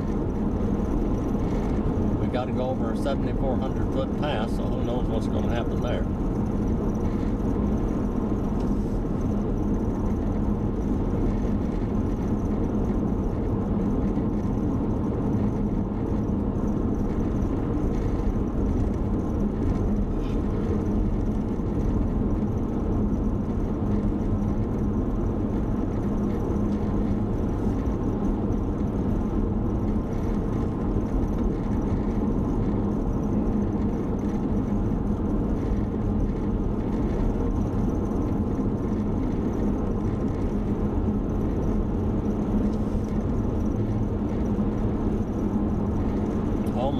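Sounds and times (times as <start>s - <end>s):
car cabin road and engine noise: 0.0s - 46.9s.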